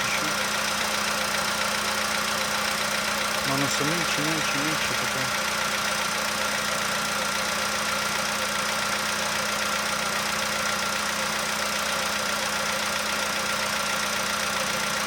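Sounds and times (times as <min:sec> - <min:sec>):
car engine idling with faint knock: 0:00.0 - 0:15.0.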